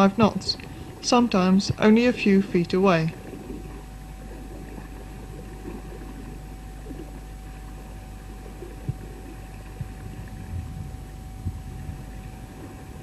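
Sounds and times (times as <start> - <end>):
rumble of wind and water: 0.0 - 13.0.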